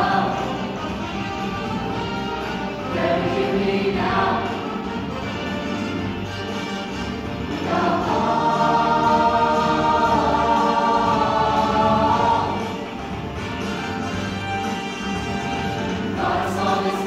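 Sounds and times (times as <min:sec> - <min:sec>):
choir singing in harmony: 0:00.0 - 0:05.6, 0:07.1 - 0:14.0, 0:15.6 - 0:17.0.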